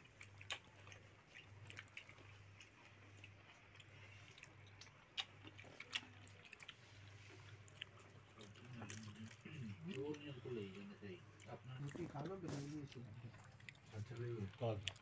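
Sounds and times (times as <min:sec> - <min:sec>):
chewing: 0:00.0 - 0:15.0
faint low hum: 0:00.0 - 0:15.0.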